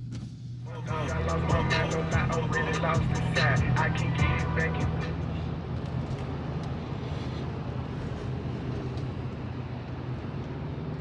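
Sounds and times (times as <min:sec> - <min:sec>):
road and tyre noise: 0:00.0 - 0:11.0
low engine drone: 0:00.6 - 0:11.0.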